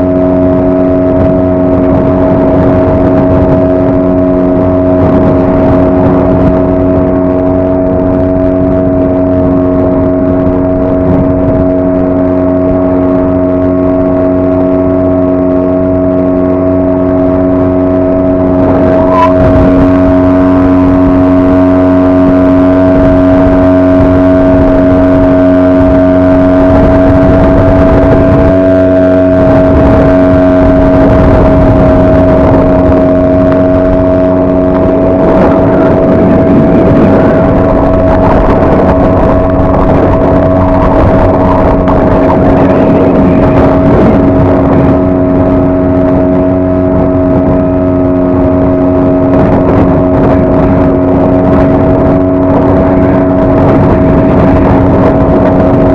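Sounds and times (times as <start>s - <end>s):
outboard motor running: 0.0s - 55.9s
wind: 0.0s - 55.9s.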